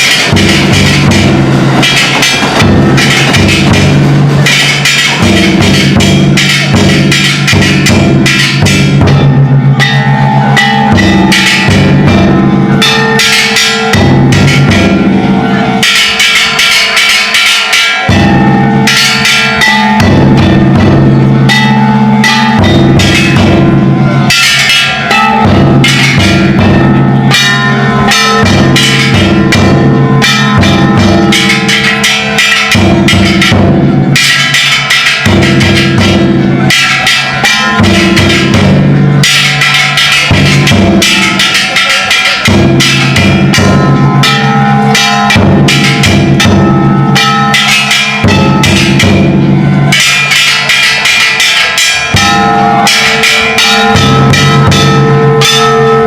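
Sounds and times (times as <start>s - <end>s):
clanging metal gongs: 0.0s - 56.0s
large taiko drum beats: 0.0s - 56.0s.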